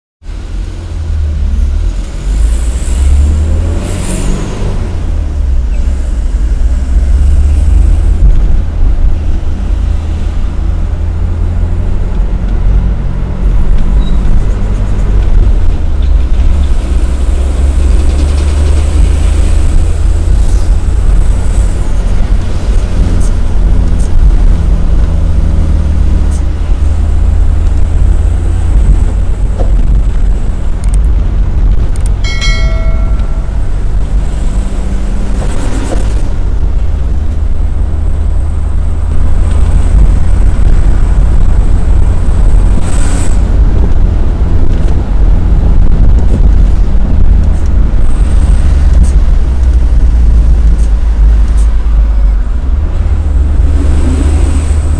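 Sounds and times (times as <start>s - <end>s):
diesel engine and road noise: 0.2s - 54.9s.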